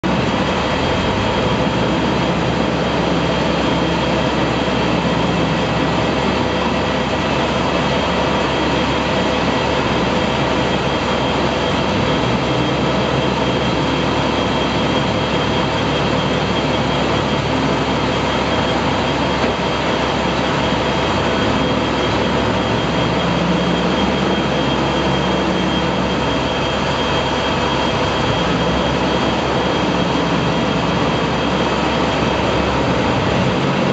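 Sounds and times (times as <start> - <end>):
diesel engine driving machine: 0.0 - 33.9.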